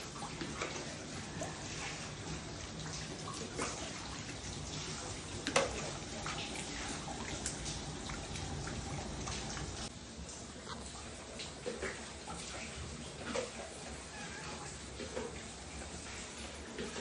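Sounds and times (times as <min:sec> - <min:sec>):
rainwater dripping and trickling: 0:00.0 - 0:17.0.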